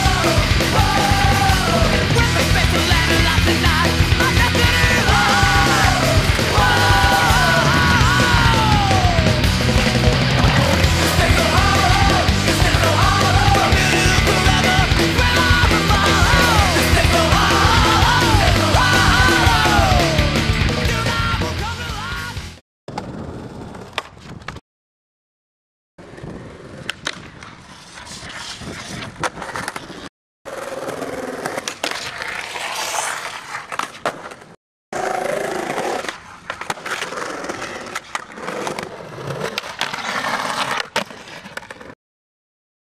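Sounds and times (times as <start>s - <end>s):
skateboard wheels rolling on concrete: 0.0s - 24.6s, 26.0s - 42.0s.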